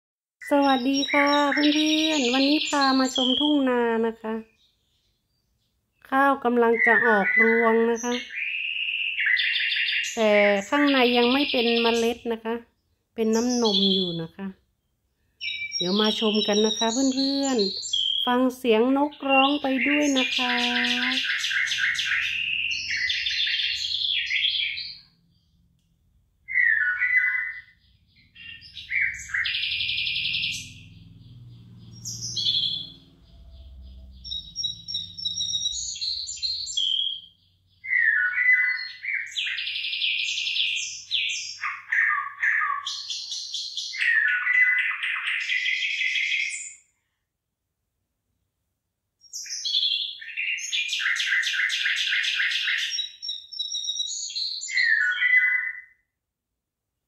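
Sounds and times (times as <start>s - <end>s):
birds singing and chirping: 0.4s - 47.1s, 49.2s - 56.2s.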